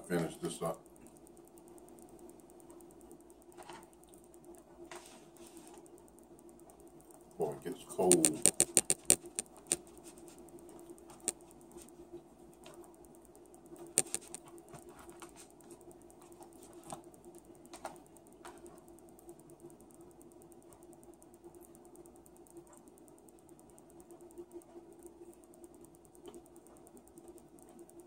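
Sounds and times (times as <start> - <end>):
faint hum: 0.0 - 28.0.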